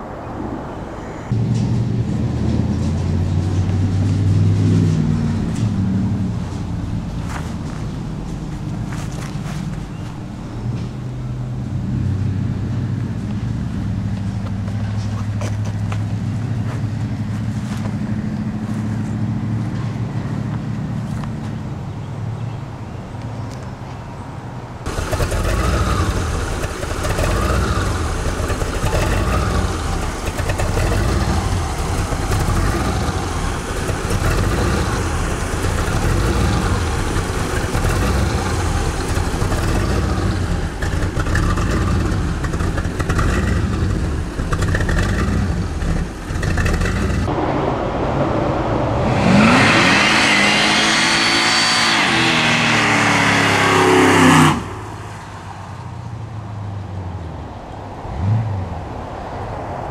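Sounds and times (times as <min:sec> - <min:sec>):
engine idling and revving: 0:01.3 - 0:22.5, 0:24.8 - 0:59.2.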